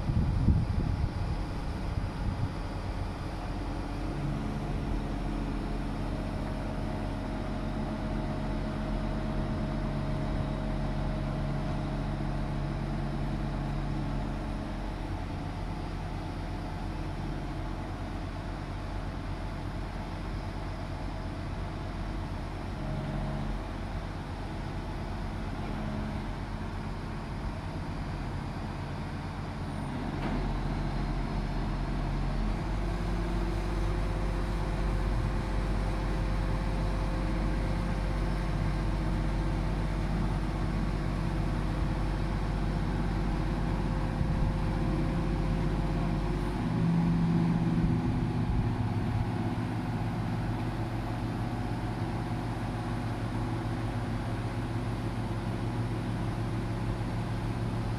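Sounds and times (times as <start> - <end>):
crane diesel engine running: 0.0 - 57.9.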